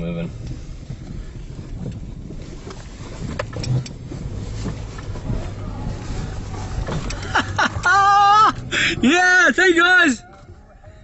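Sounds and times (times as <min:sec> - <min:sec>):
car engine running: 0:00.0 - 0:11.0
water and tyres splashing: 0:00.3 - 0:10.6.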